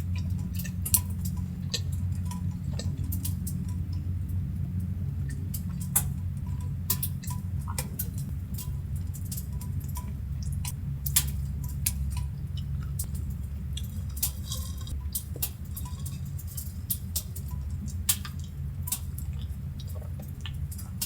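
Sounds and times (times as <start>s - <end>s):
steady low hum: 0.0s - 21.0s
ticks and drips: 0.0s - 21.0s.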